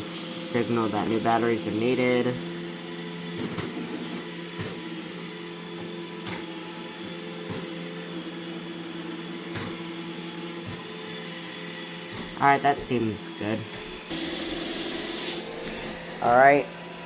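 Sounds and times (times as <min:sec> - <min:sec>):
robot vacuum humming: 0:00.0 - 0:17.0.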